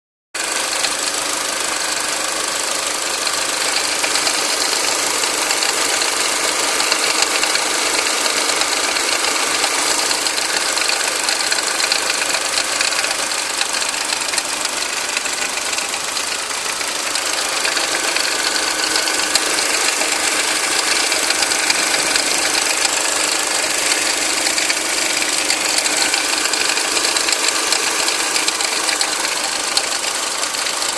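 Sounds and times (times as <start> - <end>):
turbocharged engine running: 0.4 - 30.9.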